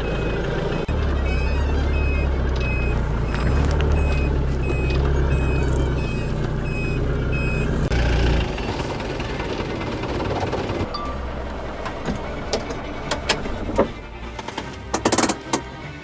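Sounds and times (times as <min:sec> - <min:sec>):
reversing alarm beeping: 0:00.0 - 0:14.0
motorhome engine running: 0:00.0 - 0:16.0.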